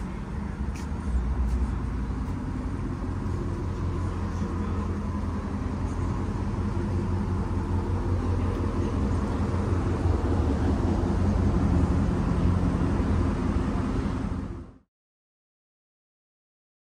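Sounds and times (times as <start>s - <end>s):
truck engine idling: 0.0s - 14.8s.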